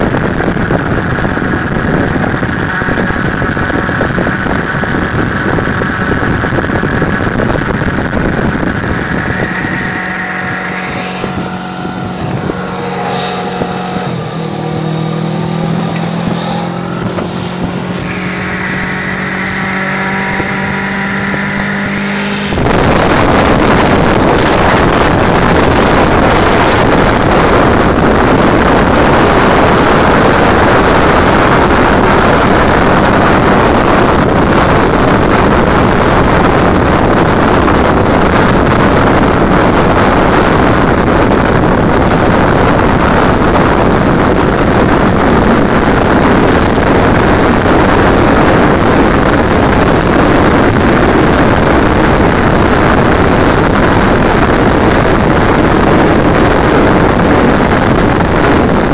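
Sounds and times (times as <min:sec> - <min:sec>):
motorcycle engine cruising: 0:00.0 - 0:58.9
wind buffeting microphone: 0:00.0 - 0:58.9.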